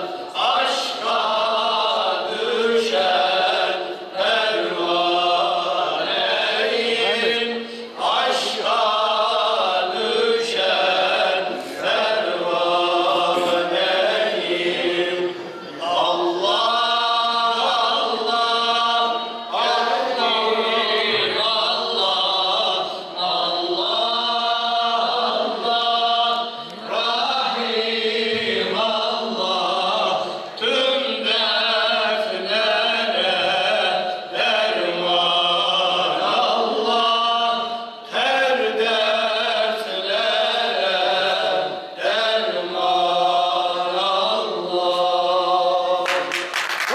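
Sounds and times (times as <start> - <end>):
men singing a hymn together: 0.0 - 46.5.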